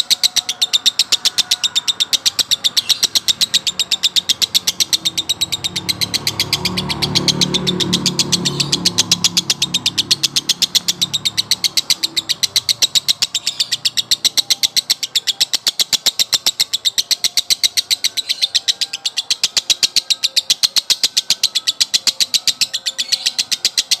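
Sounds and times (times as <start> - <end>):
lovebird chattering: 0.0 - 24.0.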